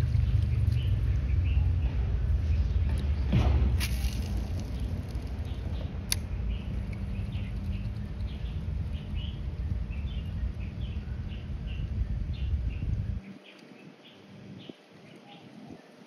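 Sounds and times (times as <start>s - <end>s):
steady low rumble: 0.0s - 15.2s
small bird chirping: 0.0s - 16.0s.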